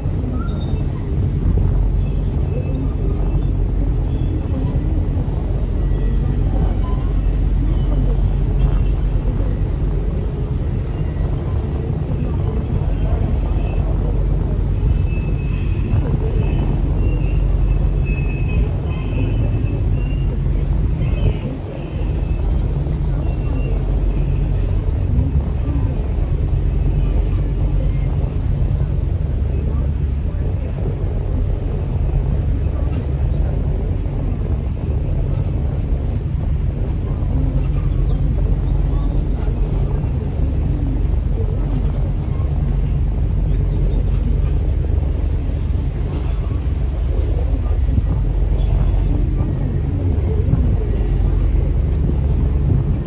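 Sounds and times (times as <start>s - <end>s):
boat engine rumbling: 0.0s - 53.0s
moving water: 0.0s - 53.0s
wind buffeting microphone: 0.0s - 53.0s.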